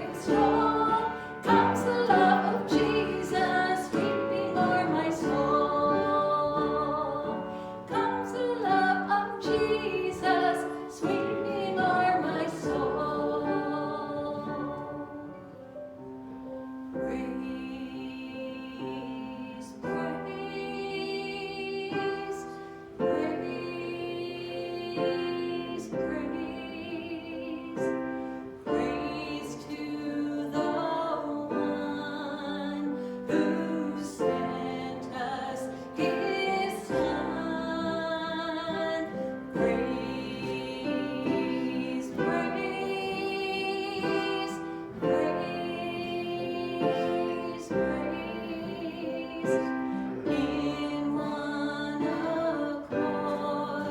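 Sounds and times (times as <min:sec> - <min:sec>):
person singing melody: 0:00.0 - 0:15.7, 0:16.9 - 0:53.9.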